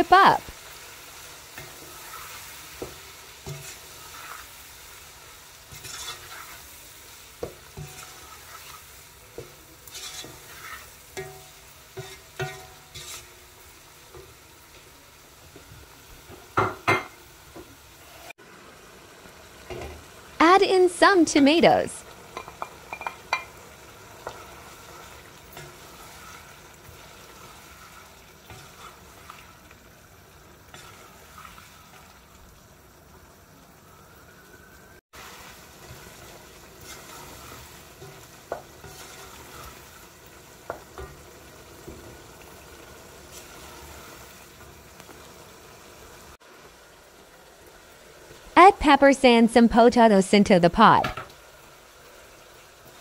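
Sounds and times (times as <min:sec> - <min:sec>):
food sizzling in a pot: 0:00.0 - 0:53.0.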